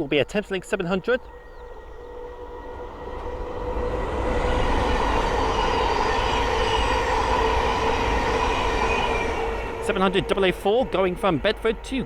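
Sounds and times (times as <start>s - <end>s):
electric train passing with whine: 0.0s - 12.0s.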